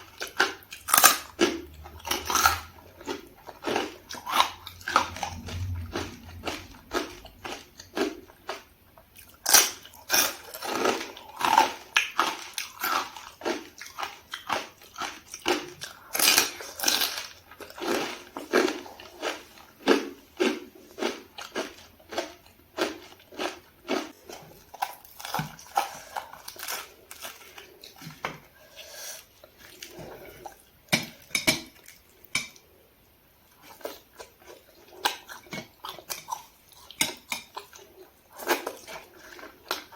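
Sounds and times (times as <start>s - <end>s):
chewing with mouth smacks: 0.0s - 32.7s, 33.5s - 39.9s.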